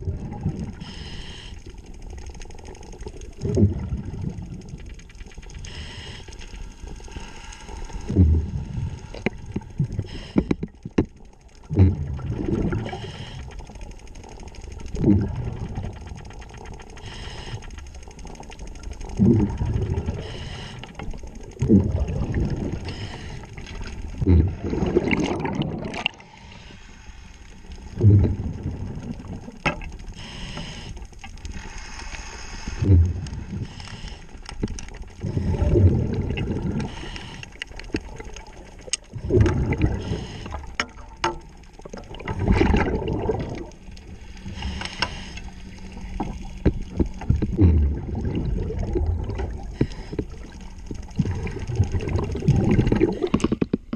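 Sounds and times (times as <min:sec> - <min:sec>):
underwater regulator breathing: 0:00.7 - 0:02.1, 0:05.5 - 0:10.9, 0:11.6 - 0:13.9, 0:14.8 - 0:18.1, 0:19.0 - 0:28.8, 0:30.0 - 0:38.2, 0:39.1 - 0:41.0, 0:42.7 - 0:53.9.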